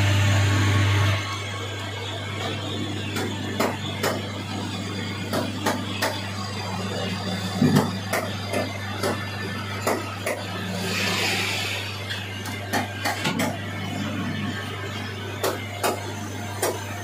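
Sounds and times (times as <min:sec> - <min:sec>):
lathe motor hum: 0:00.0 - 0:17.0.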